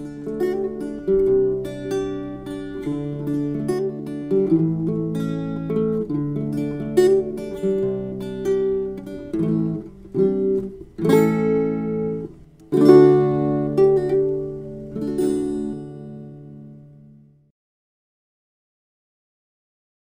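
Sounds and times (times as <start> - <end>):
acoustic guitar strumming chords: 0.0 - 17.5.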